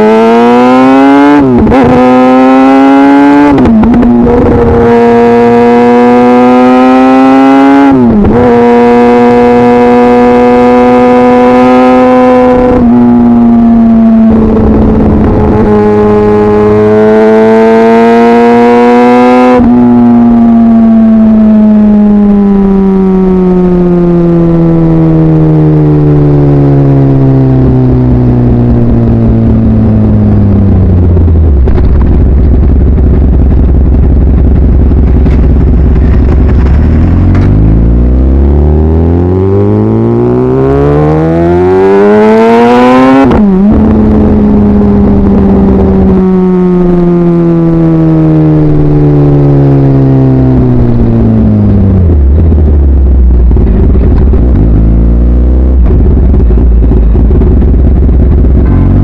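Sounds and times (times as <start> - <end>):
motorcycle engine revving: 0.0 - 59.0
gear change: 0.9 - 19.0, 28.4 - 59.0.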